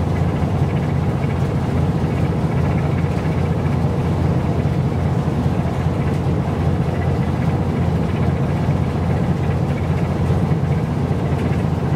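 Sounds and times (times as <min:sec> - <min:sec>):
boat engine running: 0:00.0 - 0:11.9
wind: 0:00.0 - 0:11.9.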